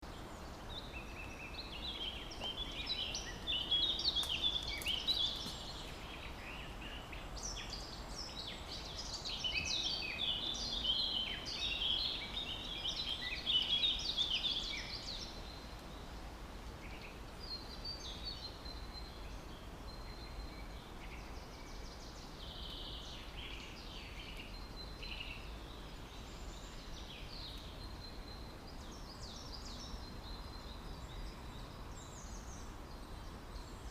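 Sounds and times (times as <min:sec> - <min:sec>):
small birds chirping: 0:00.0 - 0:33.9
steady background hiss: 0:00.0 - 0:33.9.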